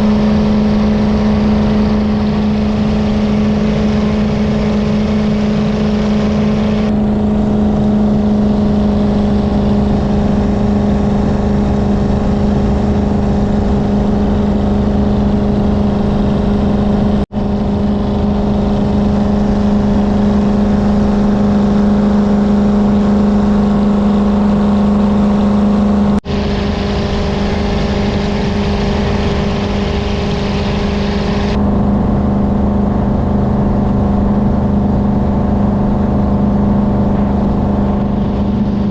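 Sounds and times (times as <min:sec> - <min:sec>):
boat engine drone: 0:00.0 - 0:38.9
rushing water and wind: 0:00.0 - 0:38.9.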